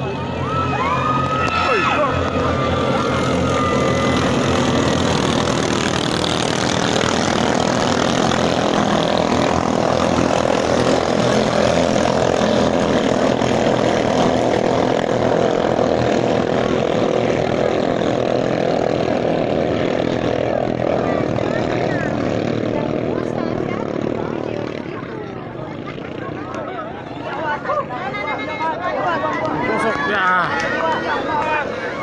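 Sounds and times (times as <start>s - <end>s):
boat engines droning: 0.0s - 32.0s.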